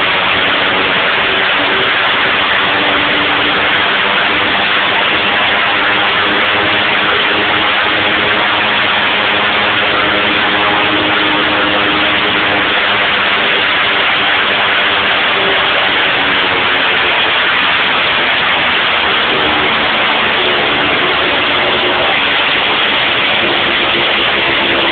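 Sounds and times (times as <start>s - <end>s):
turboprop engine running: 0.0s - 24.9s.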